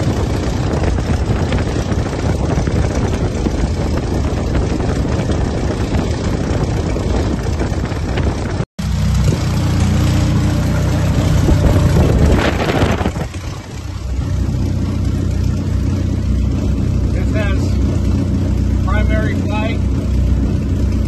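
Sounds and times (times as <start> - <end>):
aircraft engine and propeller running: 0.0 - 21.0.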